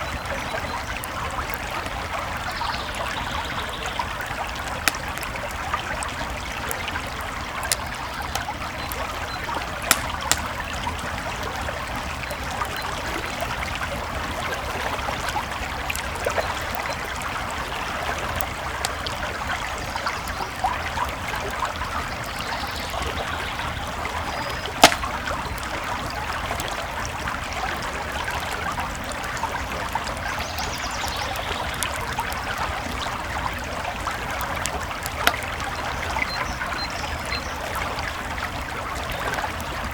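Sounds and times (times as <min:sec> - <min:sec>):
creek babbling: 0:00.0 - 0:39.9
campfire crackling and popping: 0:00.2 - 0:39.9.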